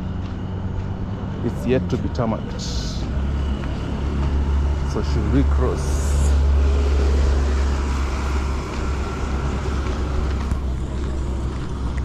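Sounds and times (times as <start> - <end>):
steady low rumble: 0.0 - 12.0
vehicle engine and tyre noise: 0.0 - 12.0.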